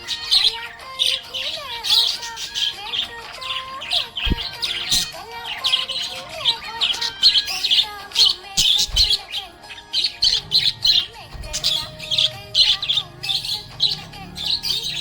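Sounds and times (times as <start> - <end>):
budgerigars chirping: 0.0 - 15.0
whistled gliding bird notes: 0.0 - 15.0.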